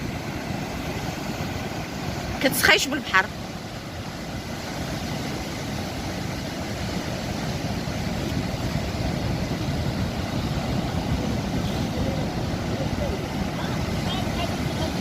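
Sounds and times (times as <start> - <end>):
sea surf rushing: 0.0 - 15.0
wind on microphone: 0.0 - 15.0.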